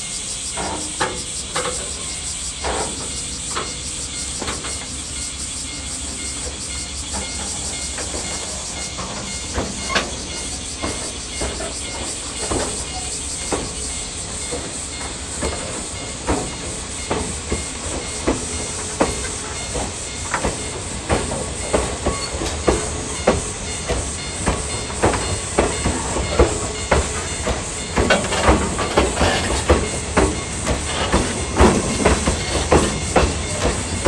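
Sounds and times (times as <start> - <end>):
freight train rumble: 0.0 - 34.0
wheel clacks over rail joints: 0.5 - 34.0.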